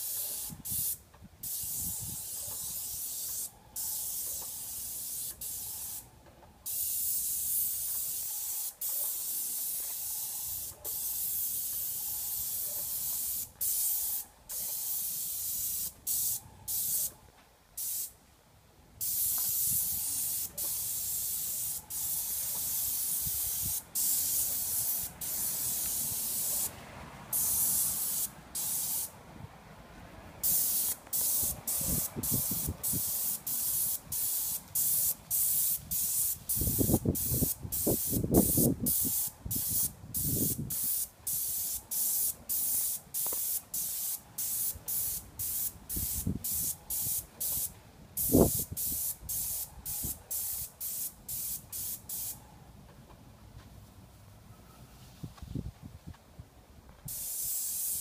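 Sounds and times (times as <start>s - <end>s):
paint sprayer hissing in bursts: 0.0s - 17.2s, 17.8s - 18.2s, 19.0s - 26.7s, 27.3s - 29.1s, 30.4s - 52.4s, 57.1s - 58.0s.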